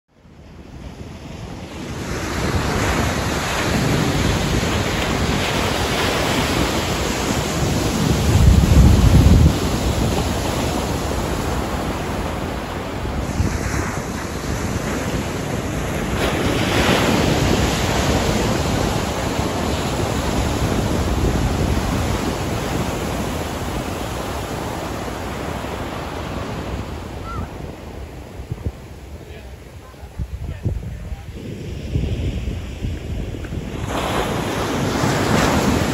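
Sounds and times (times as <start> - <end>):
wind on microphone: 0.2 - 35.9
surf breaking on beach: 0.8 - 35.9.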